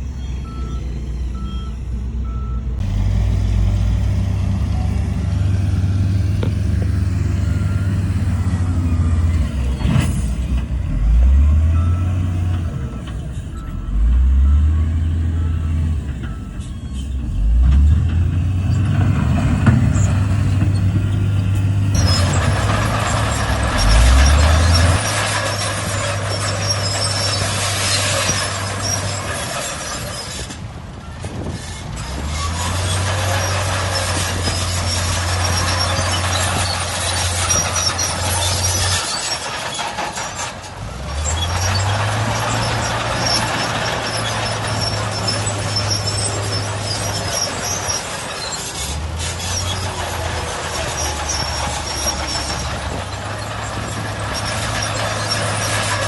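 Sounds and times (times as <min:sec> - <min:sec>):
heavy diesel engines revving: 0:00.0 - 0:56.0.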